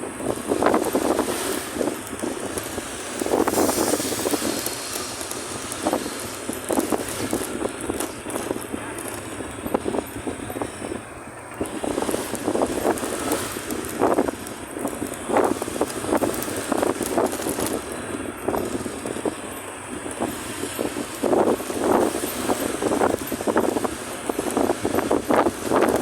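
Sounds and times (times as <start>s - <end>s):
engine and road noise: 0.0s - 26.0s
wind buffeting microphone: 0.0s - 26.0s.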